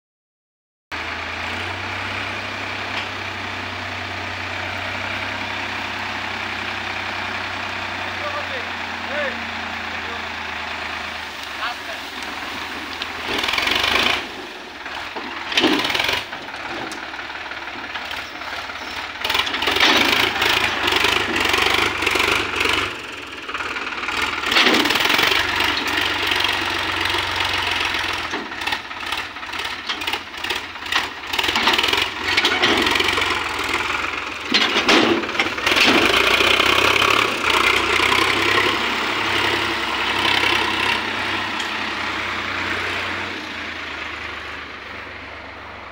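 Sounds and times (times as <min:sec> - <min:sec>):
tractor diesel engine under load: 0:00.9 - 0:45.9.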